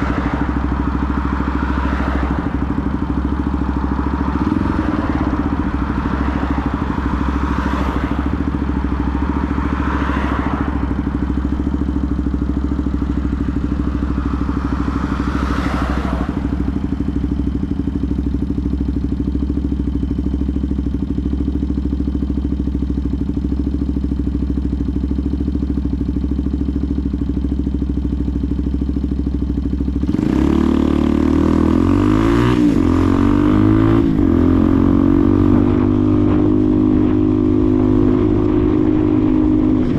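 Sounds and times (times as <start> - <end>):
motorcycle engine idling: 0.0 - 39.9
motorcycle revving and accelerating: 0.0 - 39.9.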